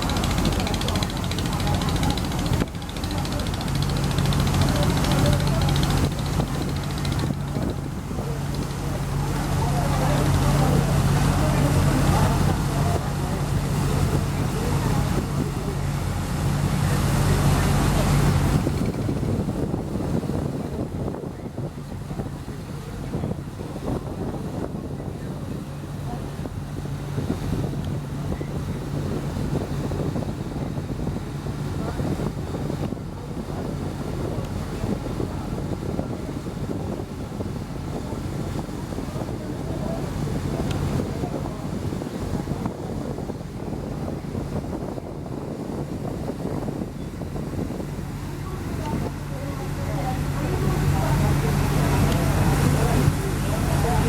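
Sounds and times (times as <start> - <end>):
boat engine droning: 0.0 - 54.0
rushing water: 0.0 - 54.0
wind buffeting microphone: 0.0 - 54.0.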